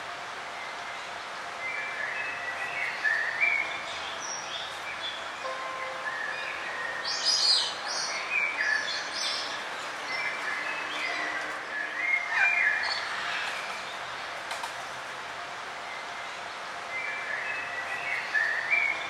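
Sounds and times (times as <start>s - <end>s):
birds chirping and trilling: 0.6s - 14.3s, 15.8s - 19.0s.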